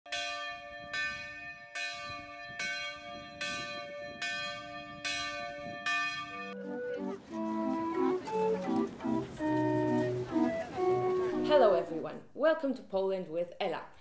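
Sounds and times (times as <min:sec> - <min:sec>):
church bell tolling: 0:00.1 - 0:11.4.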